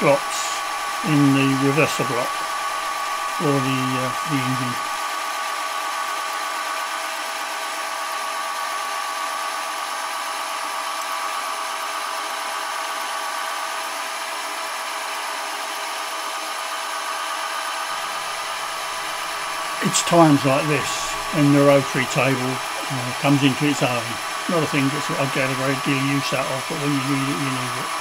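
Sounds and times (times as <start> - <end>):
milling machine whine: 0.0 - 28.0.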